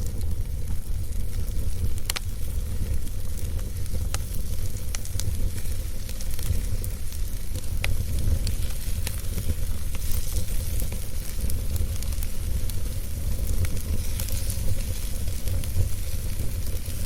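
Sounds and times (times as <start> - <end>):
fire burning with low rumble: 0.0 - 17.0
wood crackling and popping: 0.0 - 17.0.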